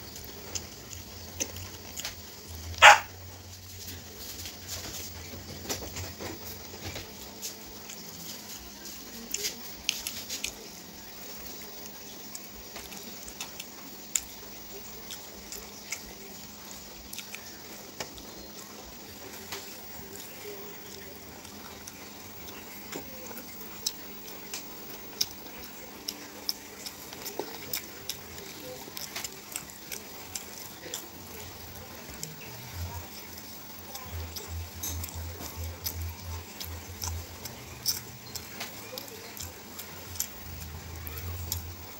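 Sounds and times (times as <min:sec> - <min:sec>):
faint hum: 0:00.0 - 0:41.9
person chewing: 0:00.0 - 0:41.9.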